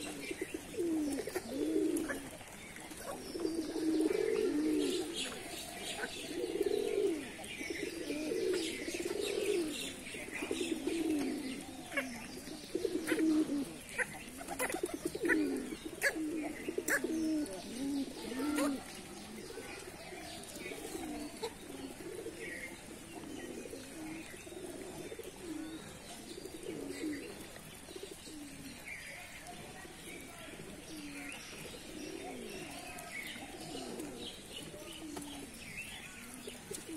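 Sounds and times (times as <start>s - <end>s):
beaks pecking on concrete: 0.0s - 36.9s
pigeons cooing: 0.0s - 36.9s.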